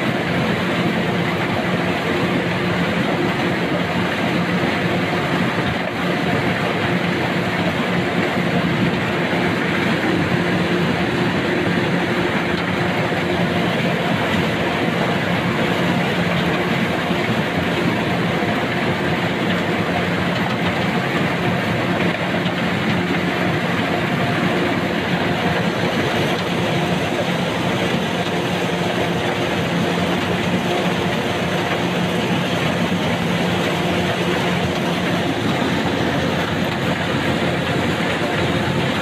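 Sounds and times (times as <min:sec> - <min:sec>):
combine engine hum: 0:00.0 - 0:39.0.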